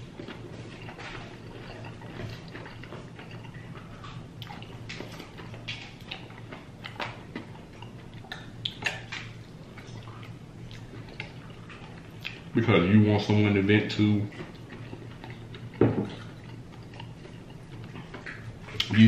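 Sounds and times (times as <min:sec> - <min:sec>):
faint low hum: 0:00.0 - 0:19.0
wet chewing and mouth smacks: 0:00.0 - 0:19.0.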